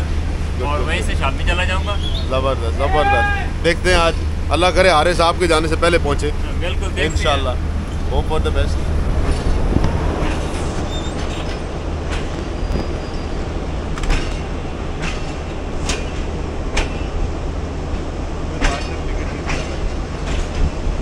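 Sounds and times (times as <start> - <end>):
train coach rumbling: 0.0 - 21.0
wheels clacking over rail joints: 3.9 - 21.0.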